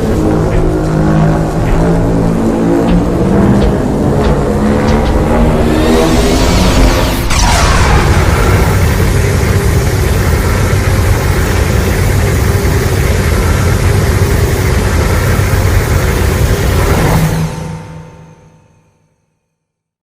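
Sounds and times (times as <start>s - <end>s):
loud low rumble: 0.0s - 18.5s.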